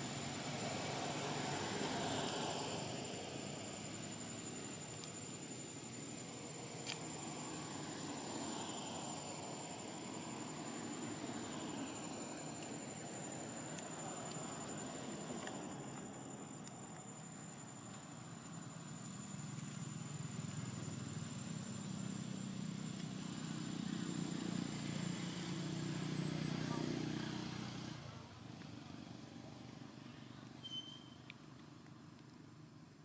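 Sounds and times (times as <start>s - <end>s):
insects droning: 0.0s - 28.2s.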